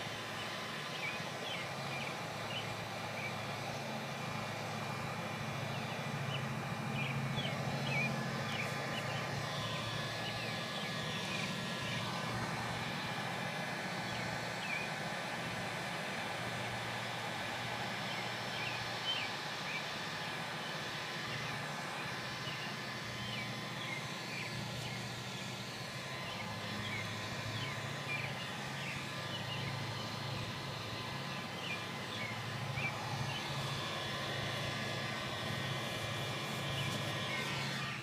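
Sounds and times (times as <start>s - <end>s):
heat gun blowing: 0.0s - 38.0s.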